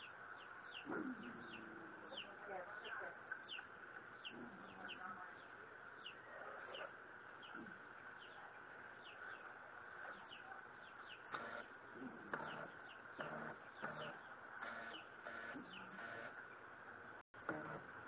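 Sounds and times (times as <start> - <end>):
faint bird chirps: 0.0 - 8.4, 9.0 - 16.3.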